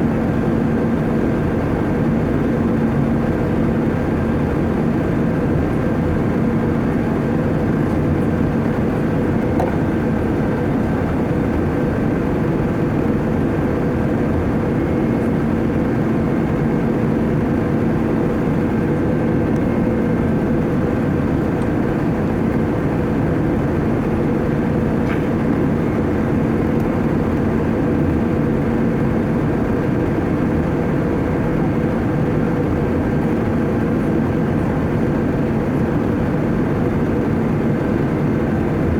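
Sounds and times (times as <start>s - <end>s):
jet engines drone: 0.0s - 38.9s.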